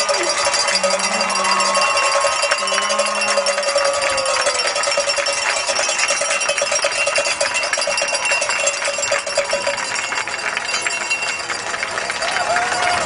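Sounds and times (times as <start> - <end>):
cowbell struck rapidly: 0.0 - 11.6
crowd noise: 0.0 - 13.0.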